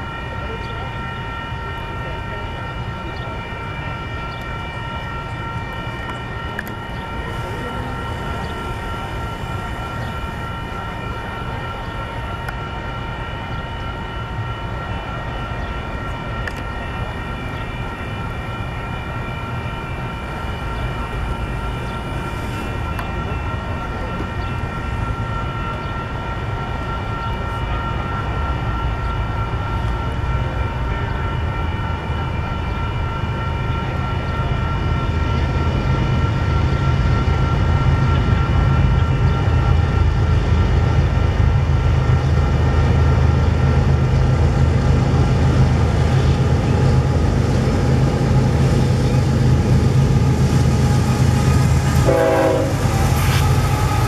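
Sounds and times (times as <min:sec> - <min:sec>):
freight trains rumbling: 0:00.0 - 0:54.0
steady high-pitched tones: 0:00.0 - 0:54.0.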